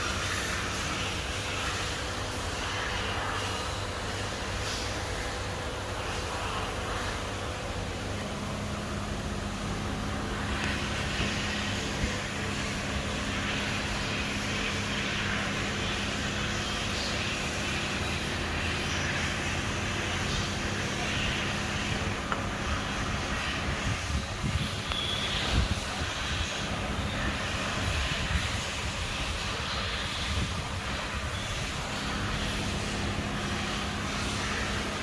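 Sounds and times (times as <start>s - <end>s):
low mechanical drone: 0.0s - 35.0s.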